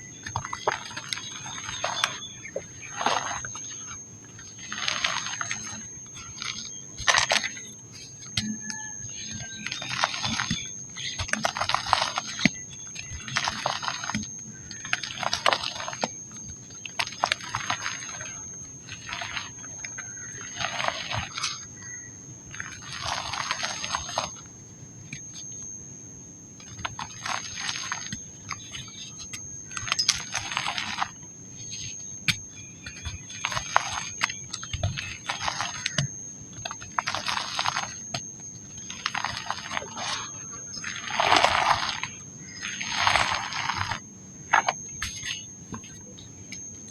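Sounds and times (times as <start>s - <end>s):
dry mud crumbling and crunching: 0.0s - 25.6s, 26.5s - 46.9s
thin high whine: 0.0s - 46.9s.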